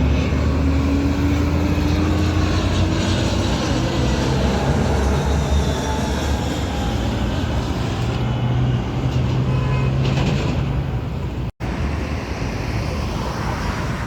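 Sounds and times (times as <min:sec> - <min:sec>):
engine rumble: 0:00.0 - 0:13.3.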